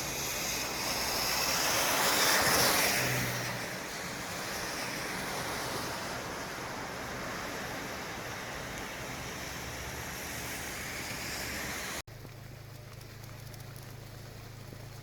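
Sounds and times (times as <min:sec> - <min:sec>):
distant traffic hiss: 0:00.0 - 0:12.0
vehicle tyre noise passing: 0:00.0 - 0:15.0.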